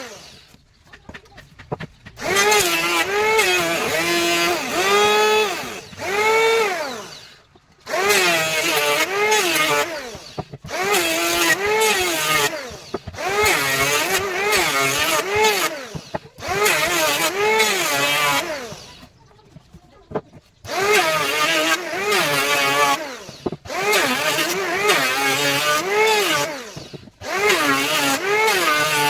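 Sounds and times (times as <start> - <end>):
electric power tool working wood: 0.0 - 29.0.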